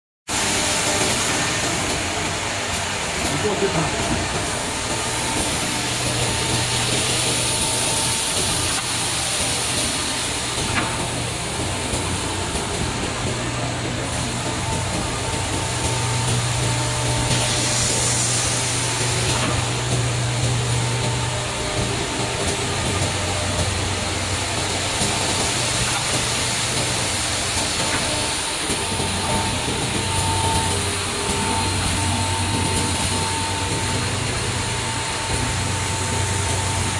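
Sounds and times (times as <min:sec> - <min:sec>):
hiss of belts and conveyor: 0:00.3 - 0:36.9
sanding machine running: 0:00.3 - 0:36.9
electric motor hum: 0:02.8 - 0:36.9.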